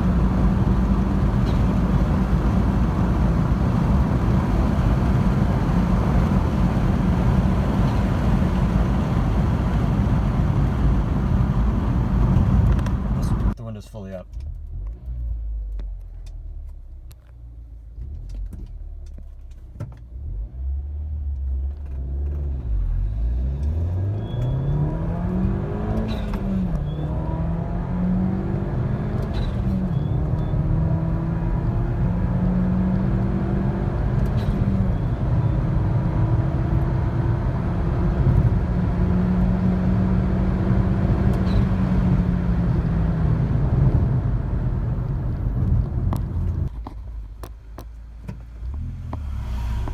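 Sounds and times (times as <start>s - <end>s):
car engine accelerating through gears: 0.0s - 13.6s, 20.0s - 46.8s, 48.2s - 49.9s.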